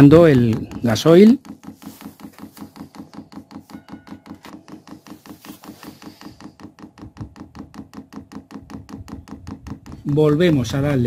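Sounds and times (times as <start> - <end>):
fuel pump ticking rapidly: 0.0 - 11.0.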